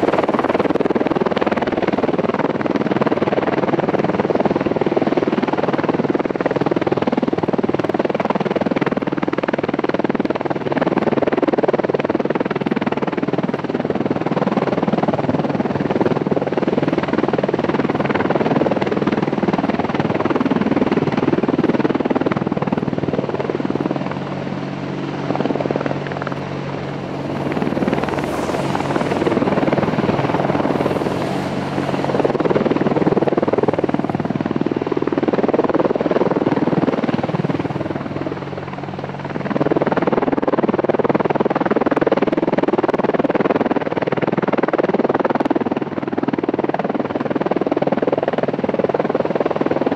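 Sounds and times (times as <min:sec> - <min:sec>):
helicopter engine noise: 0:00.0 - 0:49.9
helicopter rotor beating: 0:00.0 - 0:49.9.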